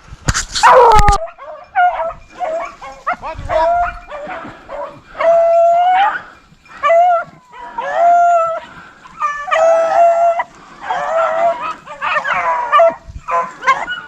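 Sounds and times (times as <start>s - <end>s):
hounds baying and howling: 0.6s - 14.0s.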